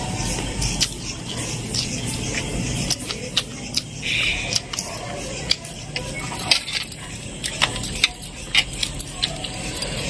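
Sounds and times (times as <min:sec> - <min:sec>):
crunchy chewing: 0:00.0 - 0:10.0
fingers mixing rice on leaf: 0:00.0 - 0:10.0.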